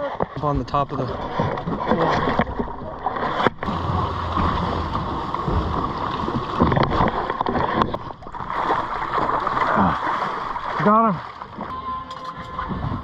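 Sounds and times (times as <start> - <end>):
water splashing against boat: 0.0 - 13.0
fish thrashing in water: 1.1 - 11.7.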